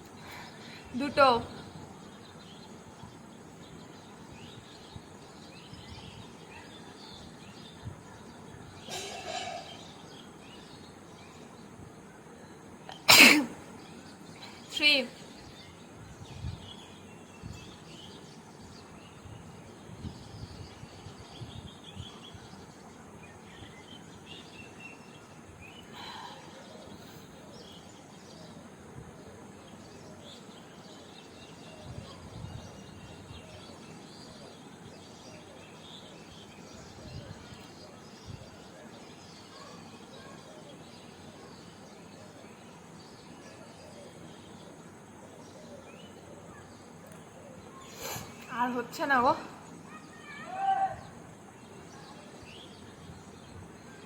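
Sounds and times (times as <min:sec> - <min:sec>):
faint bird chirps: 0:00.1 - 0:54.0
steady hiss: 0:08.7 - 0:40.0, 0:41.0 - 0:54.0.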